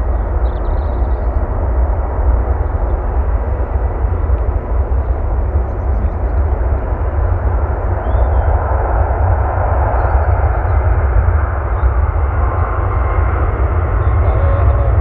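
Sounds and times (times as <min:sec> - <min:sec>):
jet engines at low thrust: 0:00.0 - 0:15.0.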